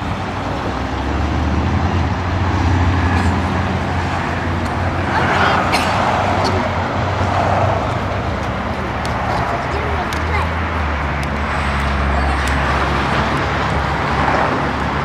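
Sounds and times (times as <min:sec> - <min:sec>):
traffic rumble: 0:00.0 - 0:15.0
vehicle passing: 0:00.0 - 0:15.0.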